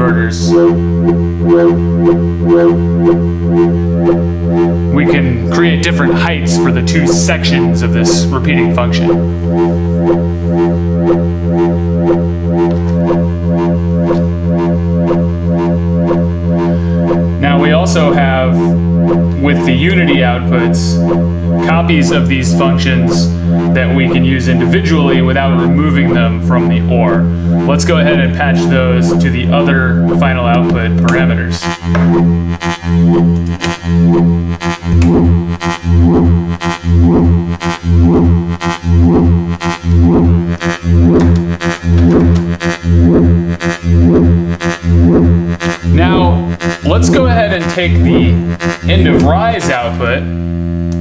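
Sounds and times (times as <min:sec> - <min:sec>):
pulsing synthesizer drone: 0:00.0 - 0:51.0
rising-and-falling synth sweep: 0:00.0 - 0:51.0.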